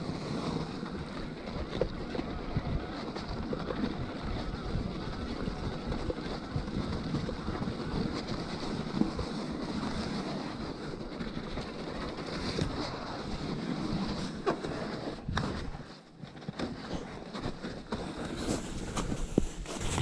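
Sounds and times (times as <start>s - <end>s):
tyres rolling through snow: 0.0s - 20.0s.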